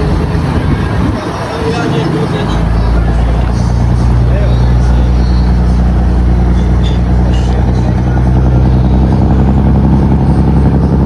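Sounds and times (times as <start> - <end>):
marine diesel engine running: 0.0 - 11.0.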